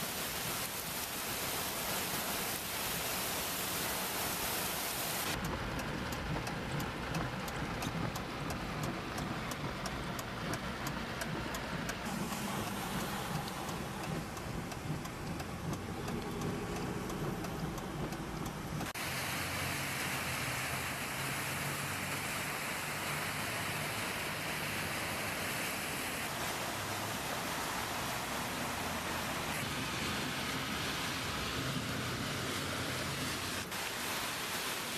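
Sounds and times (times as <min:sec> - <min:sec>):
wind-driven rain rushing: 0:00.0 - 0:34.9
low vehicle engine hum: 0:05.3 - 0:33.7.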